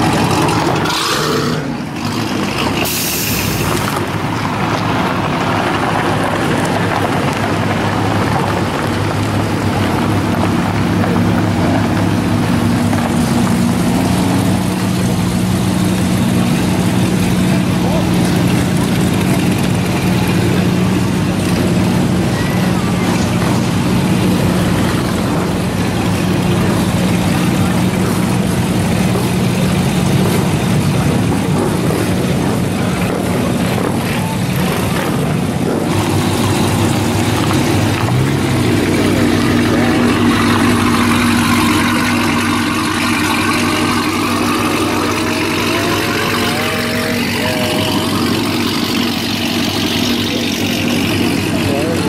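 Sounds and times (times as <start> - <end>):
car engines passing by: 0.0 - 52.0.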